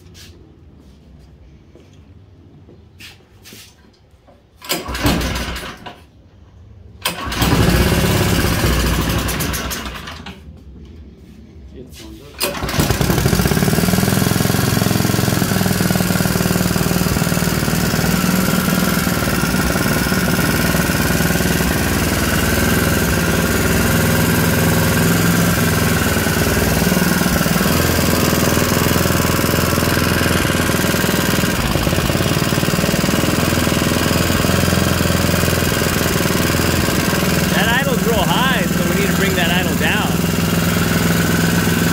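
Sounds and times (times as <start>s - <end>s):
small engine running: 4.7s - 5.9s, 7.0s - 10.3s, 12.4s - 41.9s.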